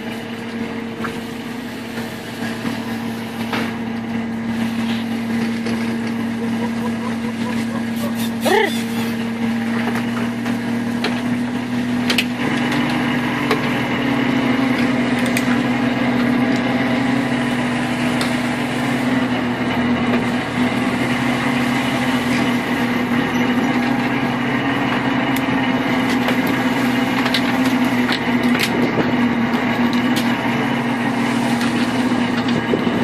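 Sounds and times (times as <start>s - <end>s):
boat motor humming: 0.0s - 33.0s.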